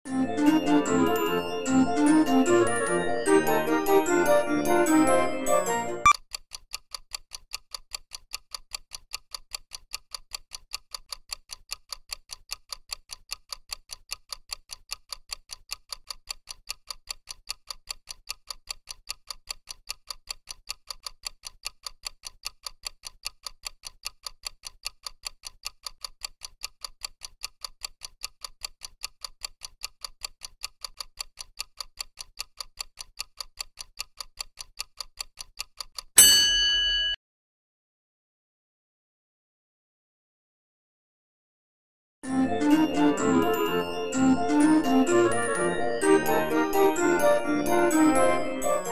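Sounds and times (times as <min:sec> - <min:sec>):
fast clock ticks: 0:00.4 - 0:36.2, 0:42.5 - 0:48.9.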